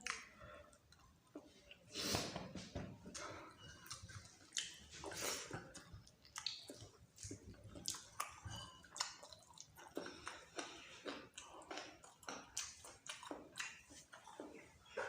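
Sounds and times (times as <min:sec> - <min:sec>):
wet chewing and lip smacks: 0:00.0 - 0:01.9, 0:03.0 - 0:15.0.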